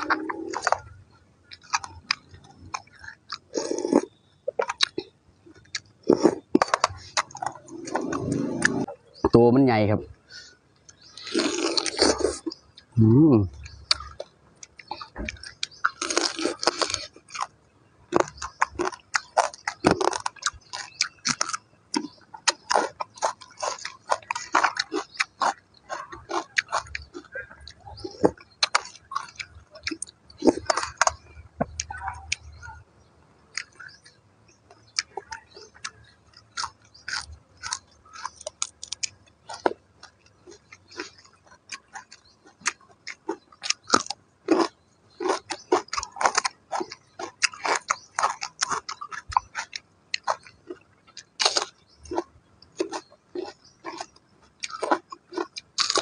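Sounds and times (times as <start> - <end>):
person chewing and crunching: 0.0 - 9.3, 10.3 - 32.7, 33.5 - 56.0.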